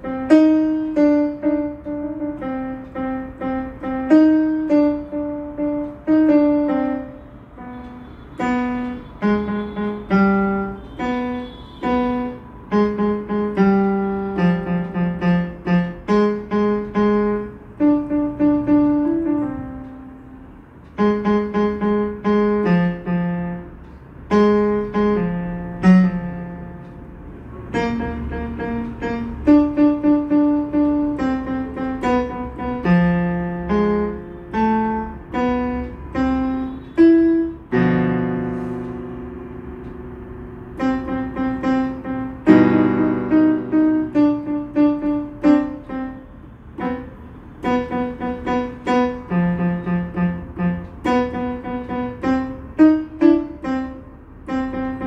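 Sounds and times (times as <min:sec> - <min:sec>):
electronic keyboard melody: 0:00.0 - 0:55.0.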